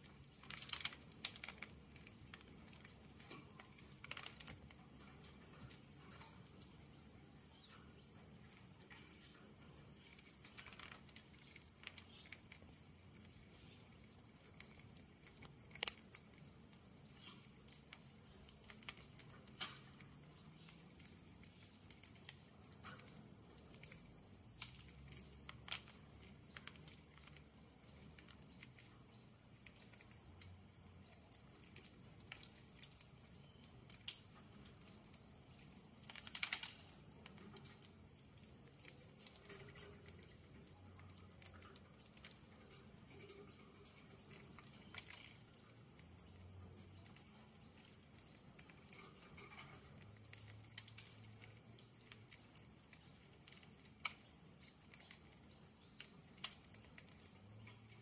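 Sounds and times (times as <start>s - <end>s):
birds cracking seeds: 0.0s - 58.0s.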